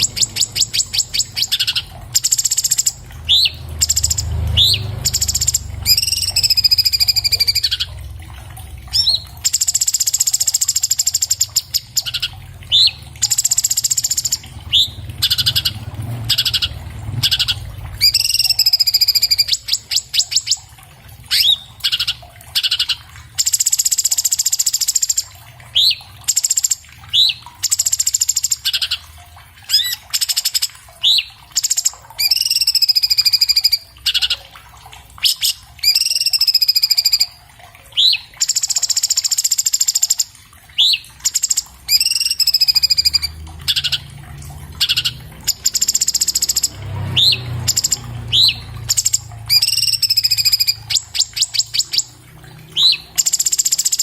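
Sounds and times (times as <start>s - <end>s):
bird singing whistles and trills: 0.0s - 8.0s, 8.9s - 20.7s, 21.3s - 29.0s, 29.7s - 34.4s, 35.2s - 37.4s, 38.0s - 44.1s, 44.8s - 54.0s.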